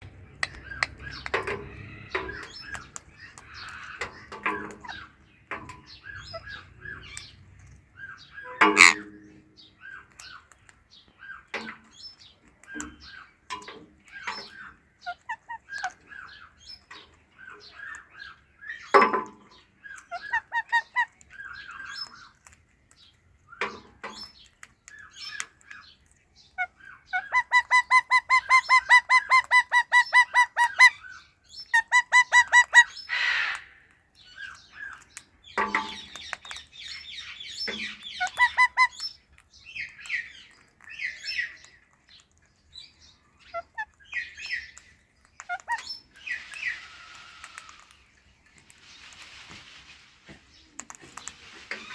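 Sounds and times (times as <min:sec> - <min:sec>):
parakeets chirping and chattering: 0:00.0 - 0:51.9.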